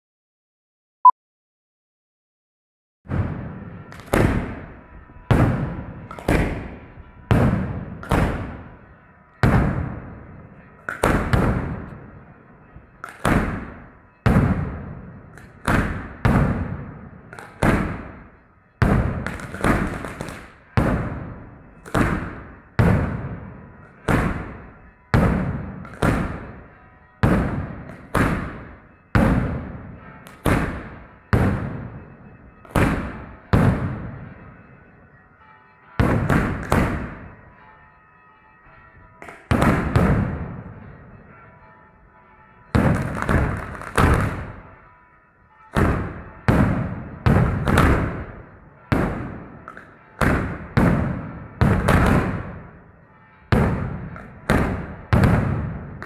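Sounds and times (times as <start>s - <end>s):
firework bangs: 3.1s - 8.8s, 9.4s - 12.2s, 12.9s - 34.5s, 36.0s - 37.4s, 39.3s - 41.0s, 42.7s - 44.8s, 45.7s - 52.8s, 53.5s - 56.0s.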